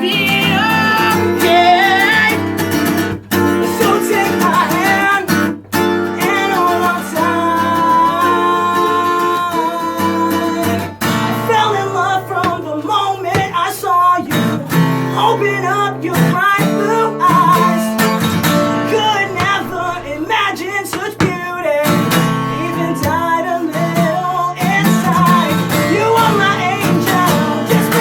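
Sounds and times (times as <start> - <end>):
acoustic guitar strummed: 0.0 - 28.0
man singing: 0.0 - 28.0.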